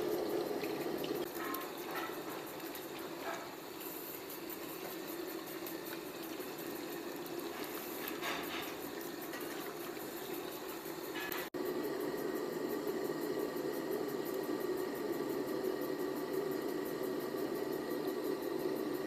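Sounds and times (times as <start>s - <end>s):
fish deep-frying in oil: 0.0s - 19.0s.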